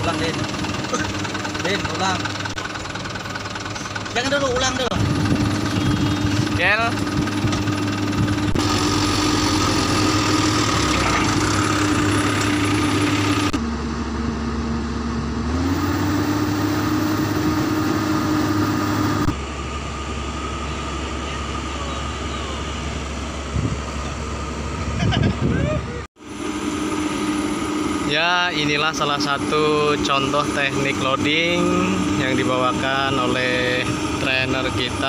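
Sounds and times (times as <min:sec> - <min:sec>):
heavy diesel engines running: 0:00.0 - 0:35.0.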